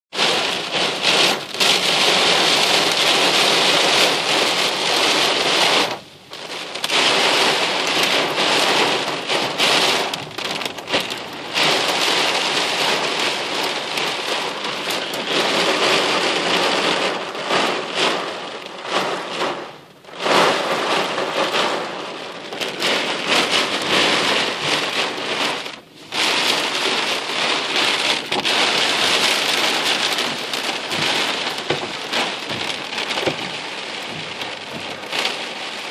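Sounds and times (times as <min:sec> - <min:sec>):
heavy rain on car roof: 0:00.1 - 0:35.9.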